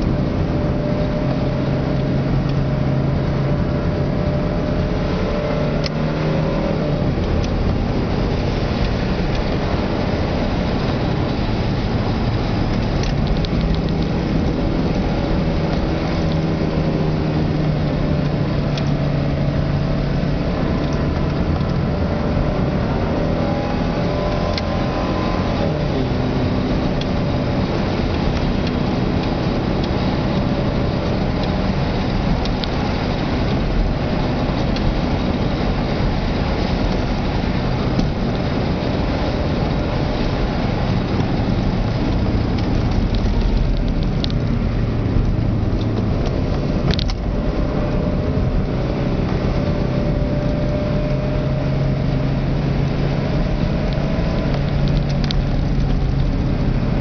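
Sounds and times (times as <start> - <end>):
car engine revving: 0.0 - 57.0
road and tyre noise: 0.0 - 57.0.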